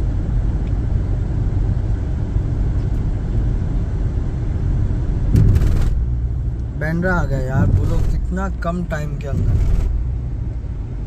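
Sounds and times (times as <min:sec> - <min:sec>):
car engine hum: 0:00.0 - 0:11.0
tyre and road noise: 0:00.9 - 0:11.0.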